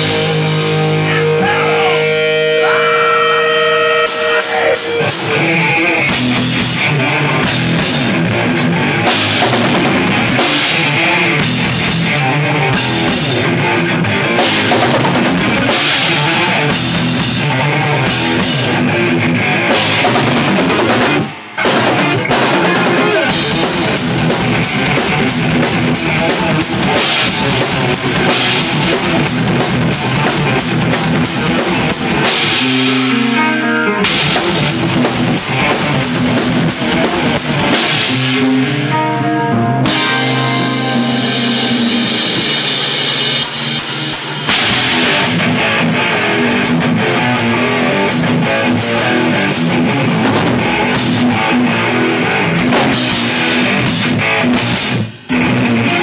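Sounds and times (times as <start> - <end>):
distorted electric guitars: 0.0 - 56.0
metal band playing live: 0.0 - 56.0.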